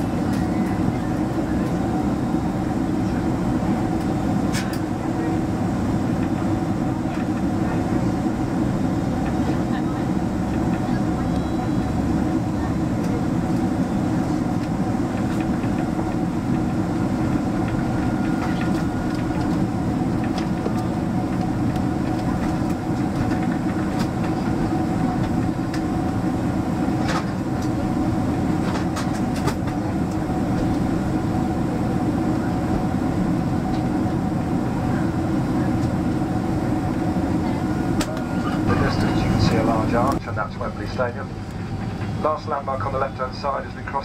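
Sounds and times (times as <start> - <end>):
airplane cabin roar: 0.0 - 44.0.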